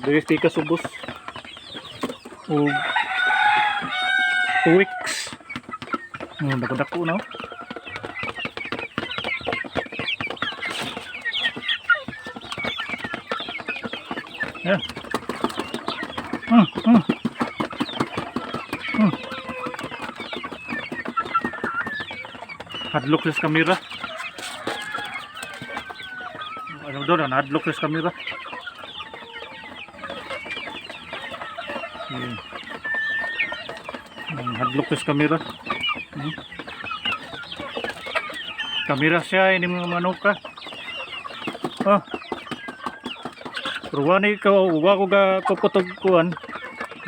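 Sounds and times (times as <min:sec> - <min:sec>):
chicks peeping and clucking: 0:00.0 - 0:47.0.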